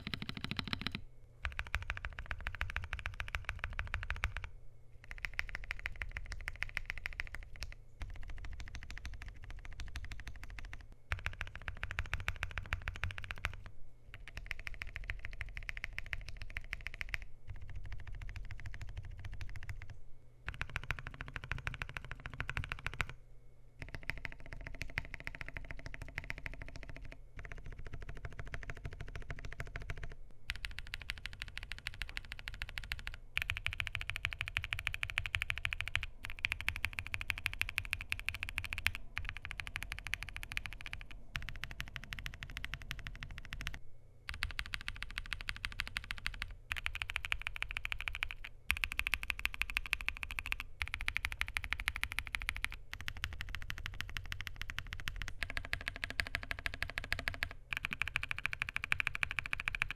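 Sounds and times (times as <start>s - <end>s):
fast mechanical keyboard typing: 0.0s - 23.2s, 23.8s - 59.9s.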